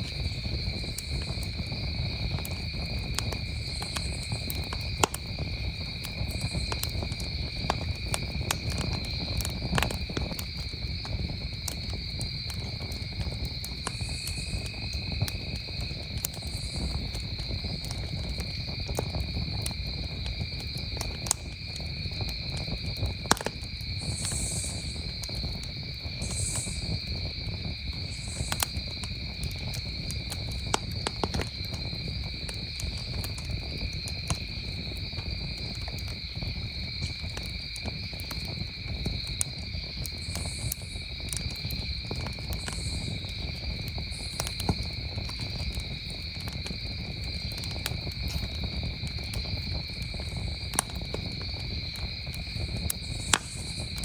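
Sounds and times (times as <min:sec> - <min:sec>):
campfire crackling and popping: 0:00.0 - 0:54.0
crickets trilling: 0:00.0 - 0:54.0.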